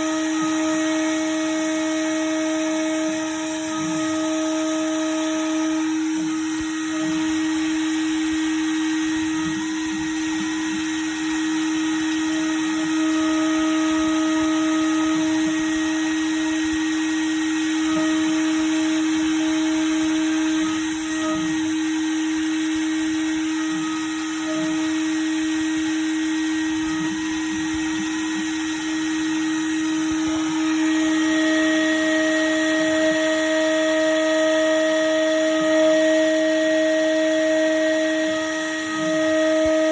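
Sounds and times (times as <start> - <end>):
milling spindle whine: 0.0 - 39.9.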